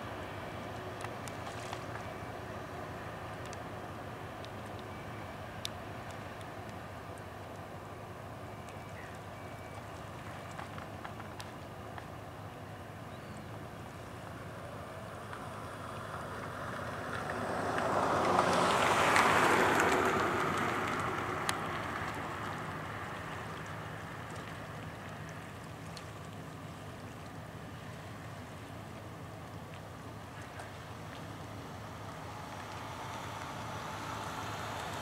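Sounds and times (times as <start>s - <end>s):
tugboat diesel engines droning: 0.0s - 35.0s.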